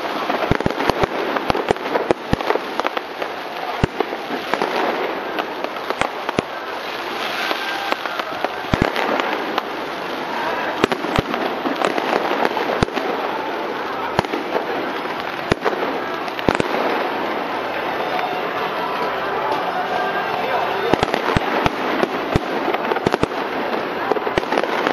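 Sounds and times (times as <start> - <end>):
firework shells bursting: 0.0 - 24.9
fireworks crackle and hiss: 0.0 - 24.9.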